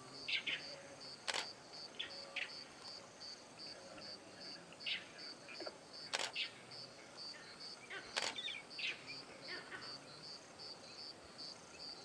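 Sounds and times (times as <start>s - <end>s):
insect chirping: 0.1s - 12.0s.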